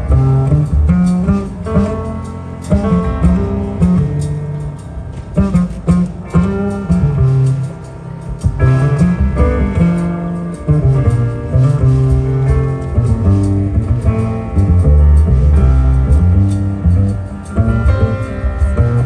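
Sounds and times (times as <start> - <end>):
bass notes: 0.0 - 19.0
piano: 0.0 - 19.0.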